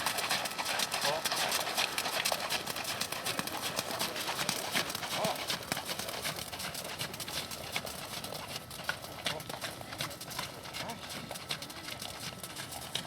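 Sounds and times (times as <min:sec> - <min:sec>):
horse hoofbeats: 0:00.0 - 0:13.0.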